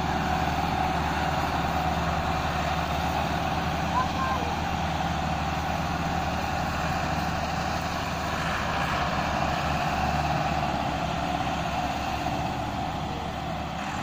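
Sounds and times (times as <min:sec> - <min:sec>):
tractor diesel engines under load: 0:00.0 - 0:14.0.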